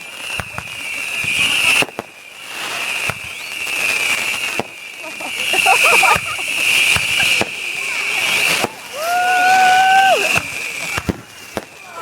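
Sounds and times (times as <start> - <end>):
fireworks hissing: 0.0 - 12.0
fireworks popping and crackling: 0.0 - 12.0.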